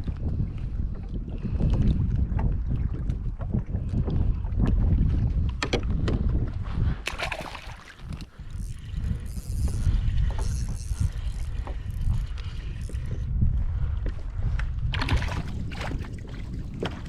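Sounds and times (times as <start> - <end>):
water splashing against hull: 0.0 - 13.3, 14.0 - 17.0
wind rumbling on microphone: 0.0 - 17.0.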